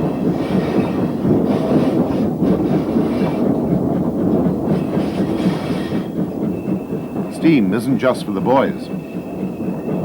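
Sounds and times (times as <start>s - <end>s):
steam locomotive running: 0.0s - 10.0s.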